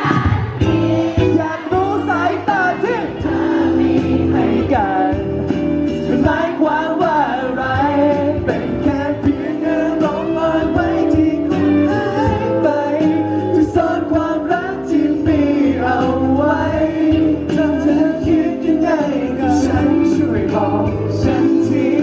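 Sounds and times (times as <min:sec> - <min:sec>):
person singing into microphone: 0:00.0 - 0:22.0
pop backing track: 0:00.0 - 0:22.0.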